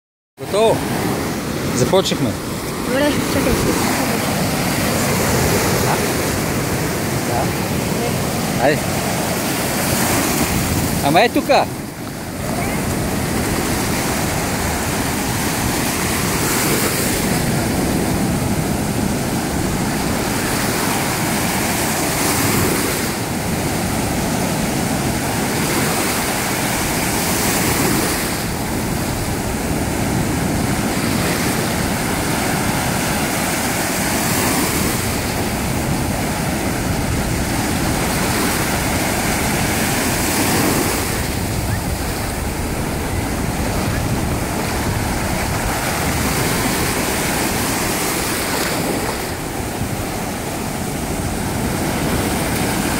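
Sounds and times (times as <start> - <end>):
sea surf breaking on shore: 0.4 - 52.9.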